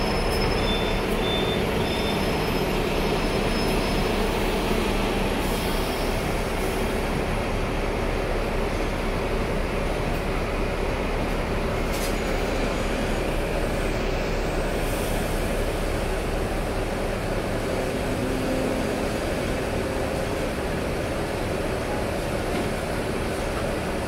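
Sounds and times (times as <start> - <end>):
tram rumbling on rails: 0.0 - 24.0.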